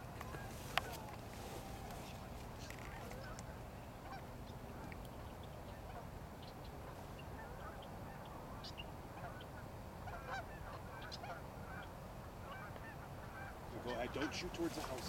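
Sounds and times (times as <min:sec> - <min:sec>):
geese honking and clucking: 0:00.0 - 0:15.0
low steady background rumble: 0:00.0 - 0:15.0.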